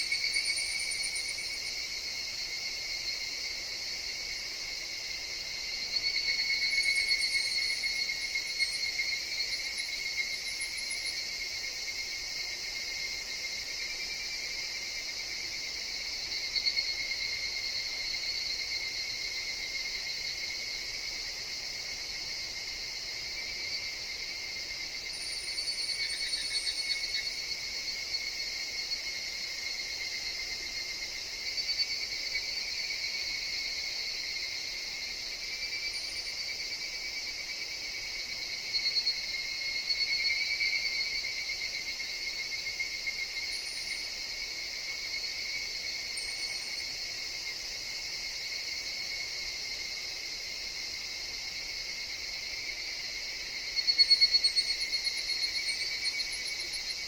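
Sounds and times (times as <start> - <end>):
cicadas trilling: 0.0 - 57.0.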